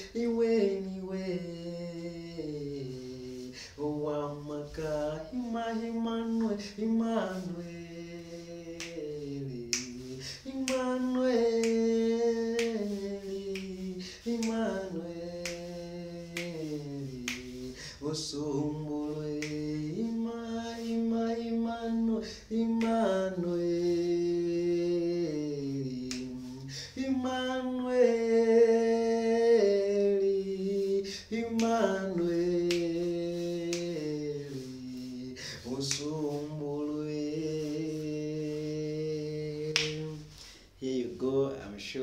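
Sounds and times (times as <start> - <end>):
man singing unaccompanied: 0.0 - 42.0.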